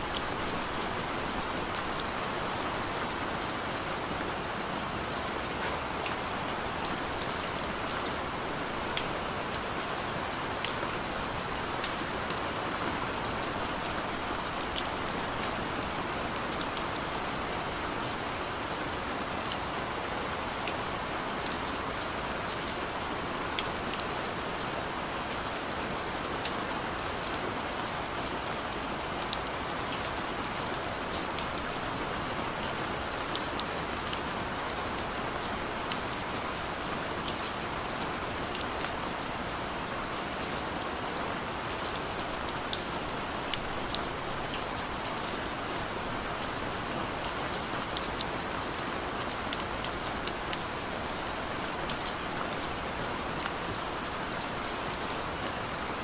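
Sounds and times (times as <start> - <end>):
steady rain hiss: 0.0 - 56.0
raindrops ticking on a surface: 0.1 - 56.0.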